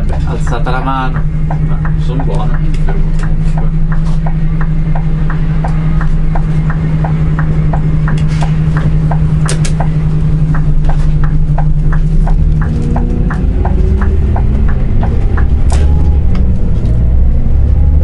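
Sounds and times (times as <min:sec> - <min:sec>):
quick even ticking: 0:00.0 - 0:16.5
diesel engine droning: 0:00.0 - 0:18.0.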